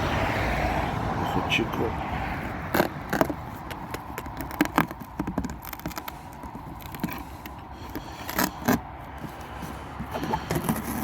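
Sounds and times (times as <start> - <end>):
knocks and scrapes of handling: 2.0 - 11.0.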